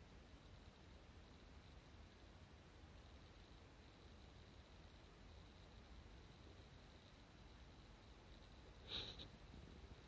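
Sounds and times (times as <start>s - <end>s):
faint low rumble and hiss: 0.0s - 10.0s.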